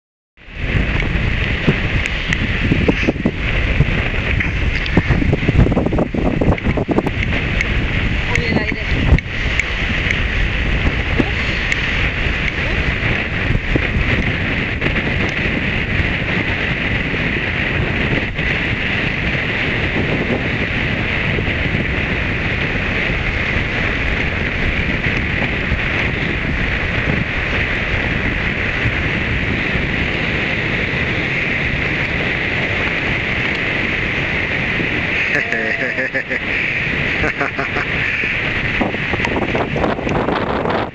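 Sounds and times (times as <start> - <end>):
wind buffeting microphone: 0.4 - 40.9.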